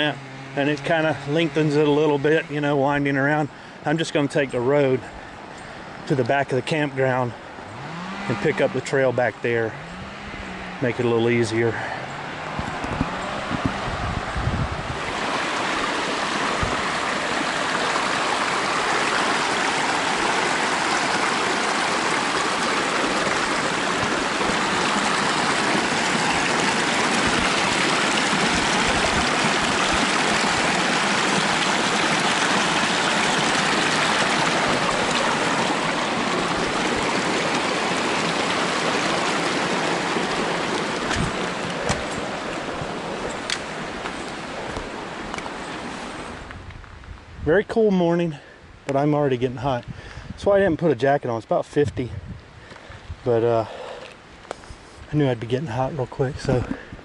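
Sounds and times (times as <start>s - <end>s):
creek water rushing: 0.0s - 46.6s, 47.9s - 57.0s.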